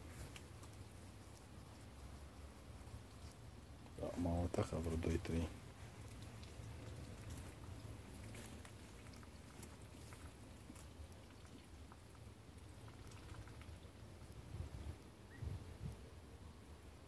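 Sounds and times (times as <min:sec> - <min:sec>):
ducklings dabbling in mud: 0:00.0 - 0:14.5
low steady hum: 0:00.0 - 0:17.0.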